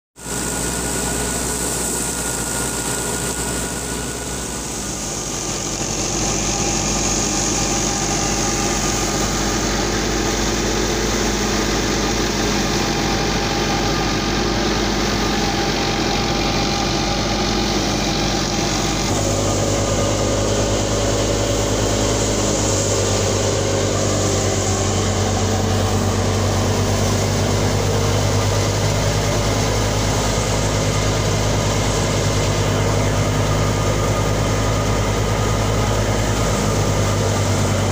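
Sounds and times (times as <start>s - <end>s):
thresher machine hum and hiss: 0.2s - 37.9s
tractor engine running: 0.2s - 37.9s.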